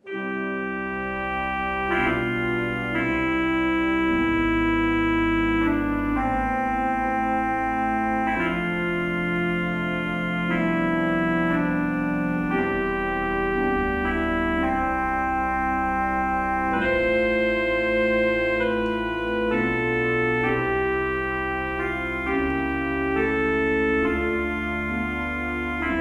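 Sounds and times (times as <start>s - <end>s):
church organ playing a hymn: 0.0s - 26.0s.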